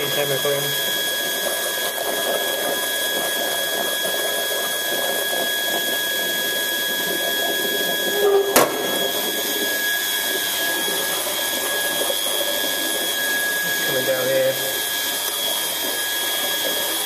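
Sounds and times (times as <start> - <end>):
high machinery tone: 0.0 - 17.0
water rushing through pipes: 0.0 - 17.0.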